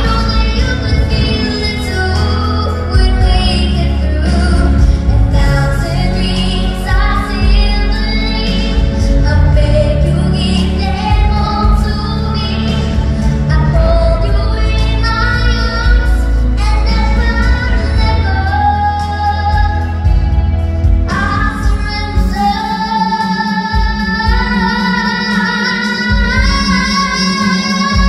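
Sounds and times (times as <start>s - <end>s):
instrumental accompaniment with bass: 0.0s - 28.0s
person singing: 0.0s - 28.0s.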